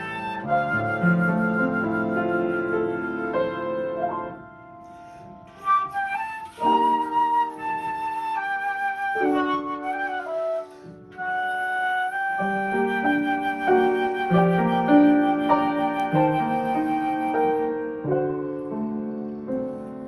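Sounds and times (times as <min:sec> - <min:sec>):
flute playing slow melody: 0:00.0 - 0:20.0.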